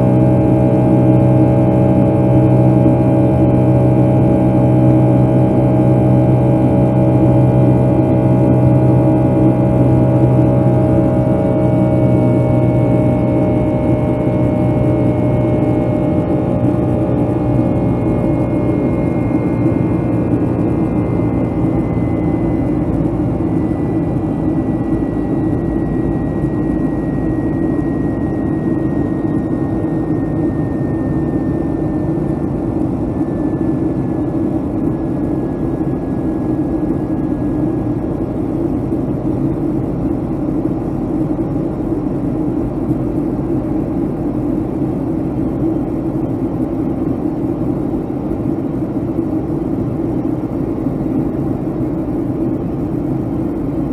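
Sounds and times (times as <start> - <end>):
high engine whine: 0.0 - 53.9
jet engine and airflow noise: 0.0 - 53.9.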